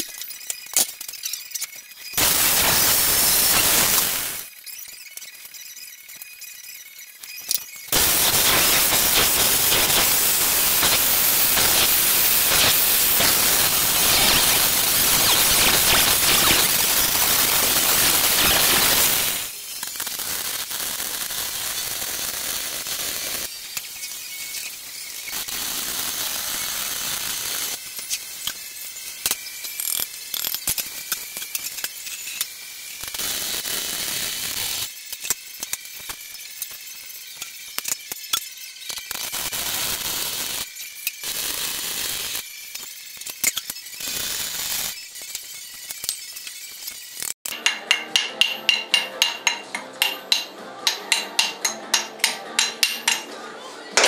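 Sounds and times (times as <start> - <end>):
arc welding crackling: 0.0 - 53.3
angle grinder cutting steel: 0.0 - 54.0.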